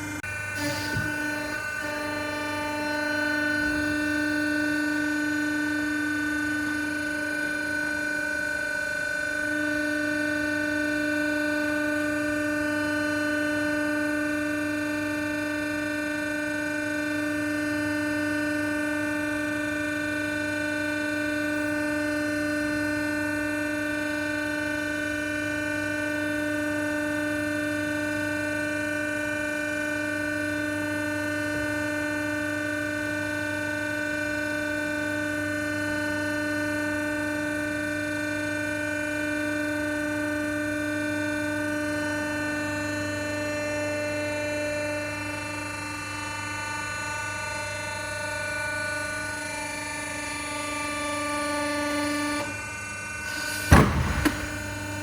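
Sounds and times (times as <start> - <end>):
machine hum with high whine: 0.0 - 55.0.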